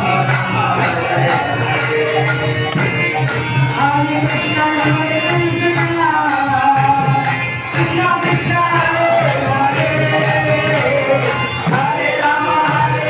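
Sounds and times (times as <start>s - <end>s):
jingling percussion: 0.0s - 13.0s
voices singing a chant: 0.0s - 13.0s.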